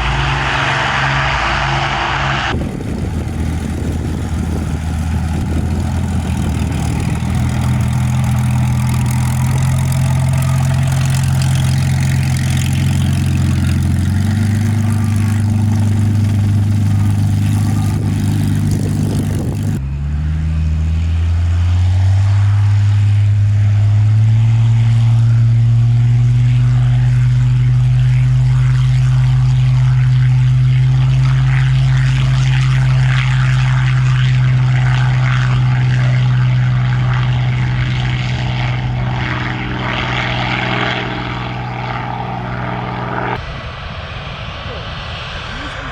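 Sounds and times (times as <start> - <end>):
propeller aircraft engines humming: 0.0 - 45.9.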